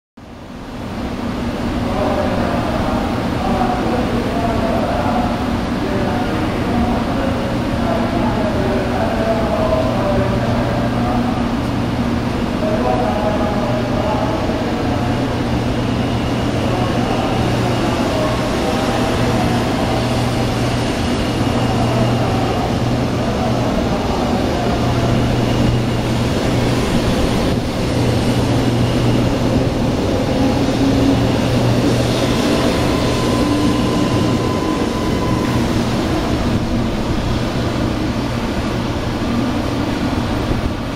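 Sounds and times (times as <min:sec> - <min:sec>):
train pulling out: 0:00.4 - 0:40.9.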